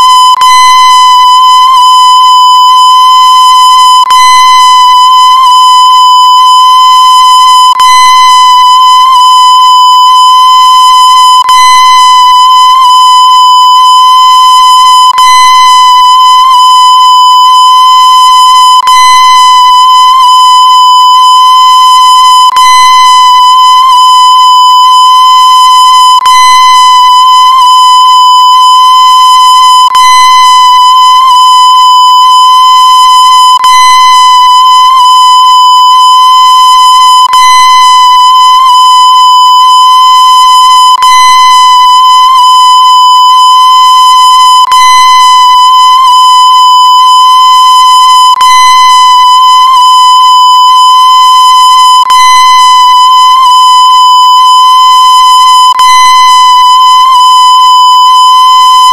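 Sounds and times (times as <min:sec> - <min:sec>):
distorted high beep tone: 0:00.0 - 0:58.9.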